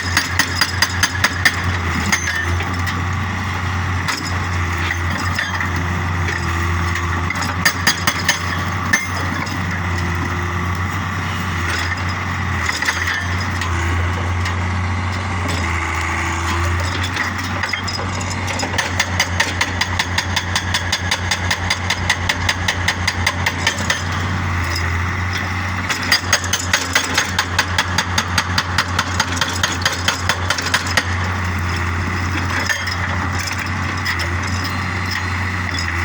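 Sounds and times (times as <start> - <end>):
hydraulic breaker hammering stone: 0.0 - 3.0, 4.0 - 10.4, 16.5 - 36.0
excavator engine running: 0.0 - 36.0.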